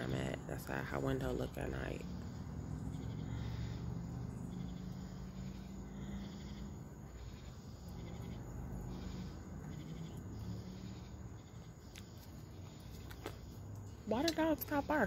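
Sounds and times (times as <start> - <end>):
crickets trilling: 0.0 - 15.0
steady low hum: 0.0 - 15.0.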